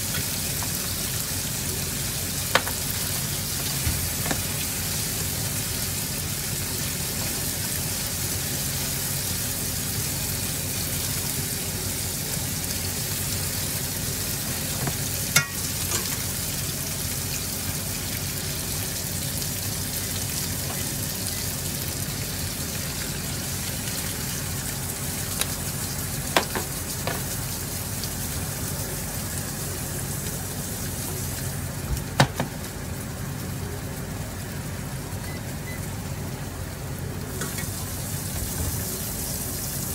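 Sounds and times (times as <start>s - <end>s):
meat sizzling in a pan: 0.0s - 35.6s, 37.3s - 39.9s.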